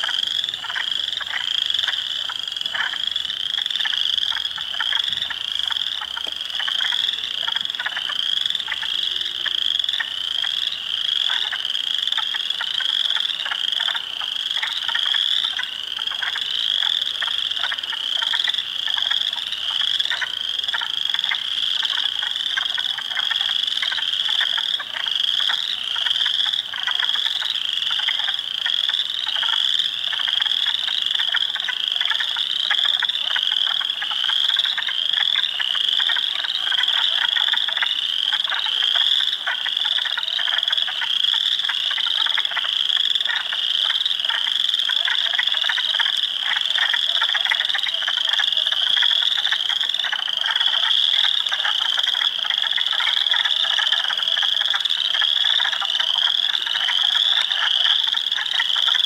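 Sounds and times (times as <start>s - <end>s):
frogs clucking and trilling: 0.0s - 59.0s
frogs peeping in chorus: 0.0s - 59.0s.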